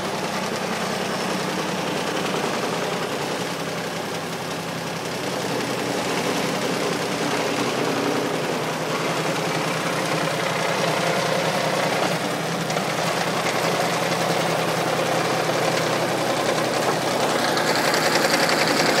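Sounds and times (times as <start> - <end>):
stump grinder engine running: 0.0 - 19.0.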